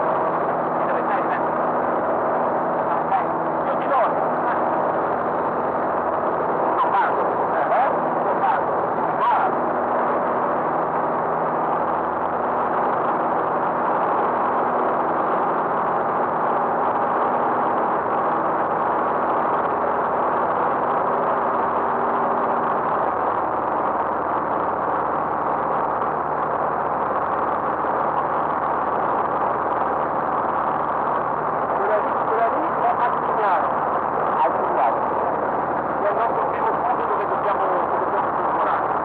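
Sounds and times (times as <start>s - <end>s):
airflow noise: 0.0s - 39.0s
light aircraft engine drone: 0.0s - 39.0s.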